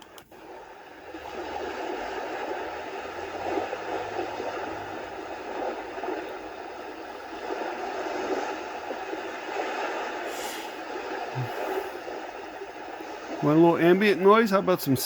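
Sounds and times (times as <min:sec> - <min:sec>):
surf noise from sound machine: 0:00.0 - 0:15.0.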